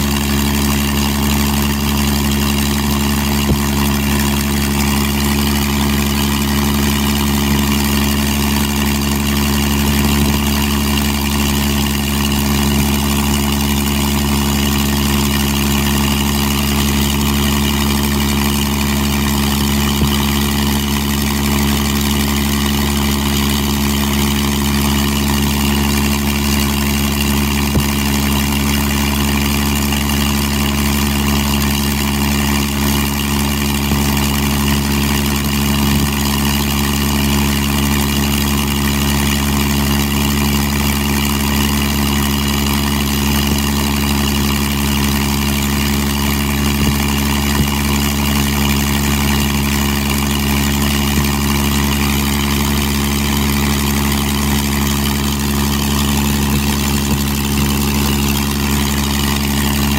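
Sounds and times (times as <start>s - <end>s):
aircraft piston engine running: 0.0s - 59.9s.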